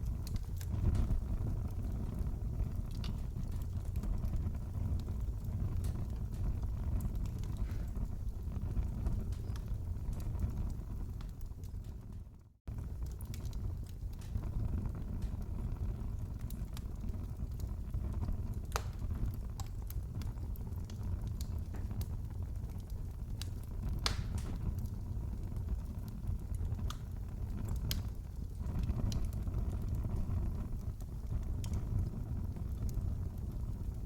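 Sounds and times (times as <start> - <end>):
fire pops and snaps: 0.0 - 34.0
low rumble of flames: 0.0 - 34.0
wood fire crackling: 0.0 - 34.0.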